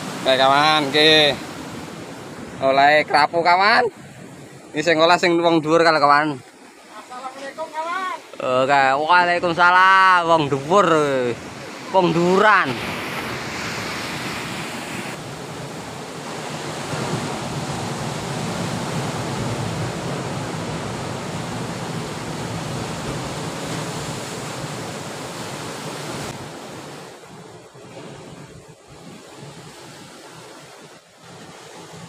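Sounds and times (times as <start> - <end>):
surf washing on rocky shore: 0.0 - 32.0.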